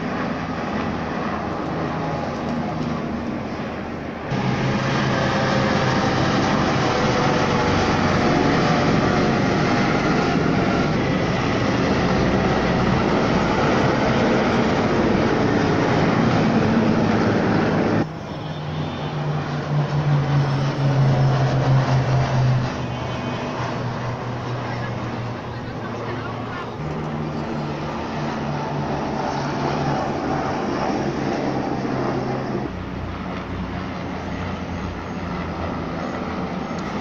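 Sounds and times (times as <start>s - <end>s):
helicopter rotor and turbine noise: 0.0s - 37.0s
wavering aircraft engine hum: 0.0s - 37.0s.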